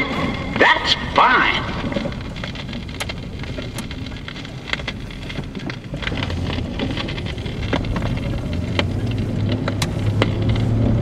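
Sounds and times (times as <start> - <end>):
low rumble inside car: 0.0 - 11.0
vinyl record hiss and crackles: 0.0 - 11.0.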